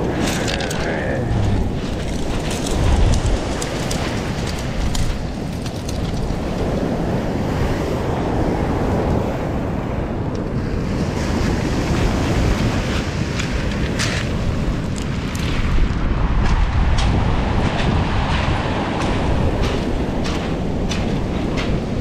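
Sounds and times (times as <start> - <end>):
waves washing on pebble beach: 0.0 - 22.0
wind on microphone: 0.0 - 22.0.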